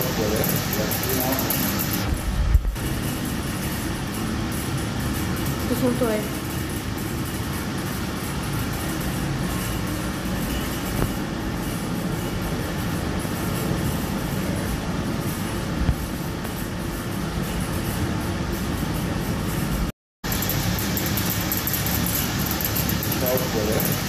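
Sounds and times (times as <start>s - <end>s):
distillation plant rumble and hiss: 0.0s - 24.0s.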